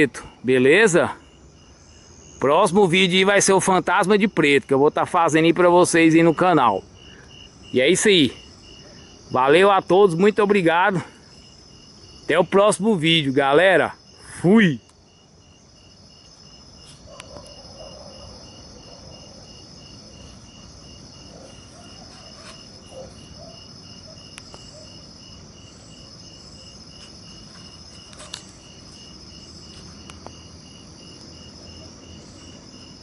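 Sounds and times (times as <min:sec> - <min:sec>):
insect pulsing: 0:00.0 - 0:33.0
insects trilling: 0:00.0 - 0:33.0.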